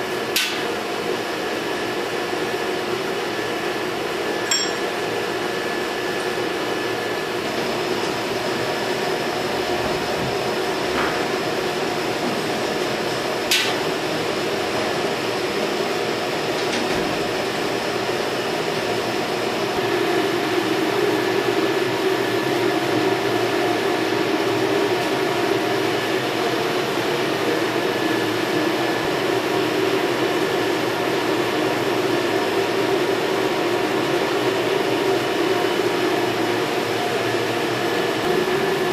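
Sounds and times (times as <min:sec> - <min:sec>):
mechanical hum with held tones: 0:00.0 - 0:38.9.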